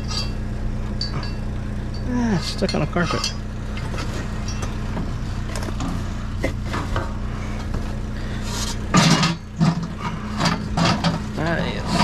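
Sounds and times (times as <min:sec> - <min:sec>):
scrap metal clinking: 0:00.0 - 0:12.0
vehicle engine idling: 0:00.0 - 0:12.0.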